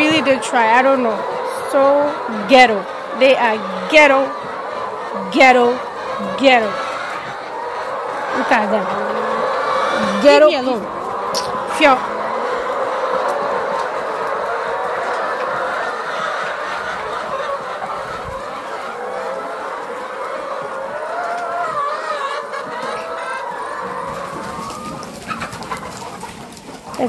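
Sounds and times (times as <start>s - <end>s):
hens clucking: 0.0s - 27.0s.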